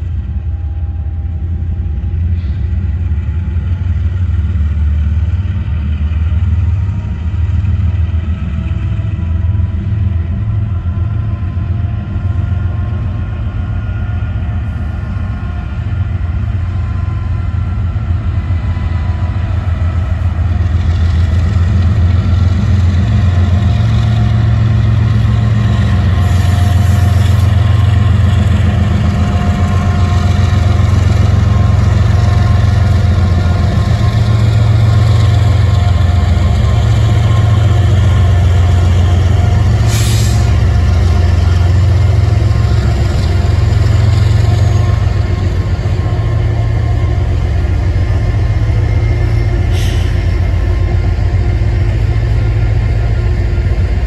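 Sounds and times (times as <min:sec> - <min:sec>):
diesel locomotive engine drone: 0:00.0 - 0:54.0
steady whine: 0:08.2 - 0:54.0.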